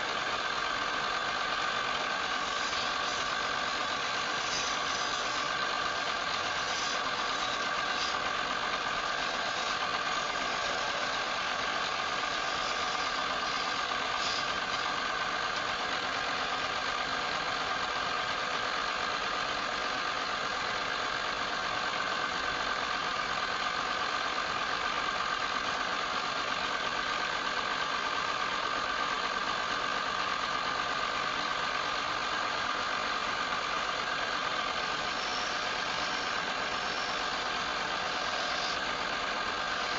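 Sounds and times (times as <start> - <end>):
wood lathe running: 0.0 - 39.9.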